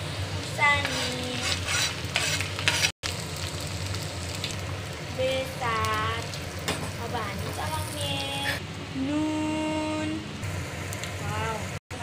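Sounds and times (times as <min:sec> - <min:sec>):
hot oil sizzling in pan: 0:00.0 - 0:08.6, 0:10.4 - 0:12.0.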